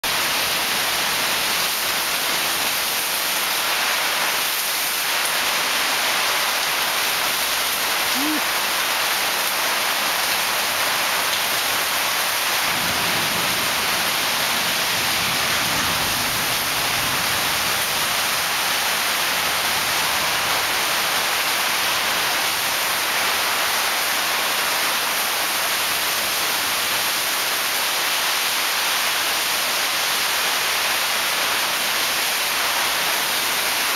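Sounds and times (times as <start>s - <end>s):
heavy rain hissing: 0.0s - 33.9s.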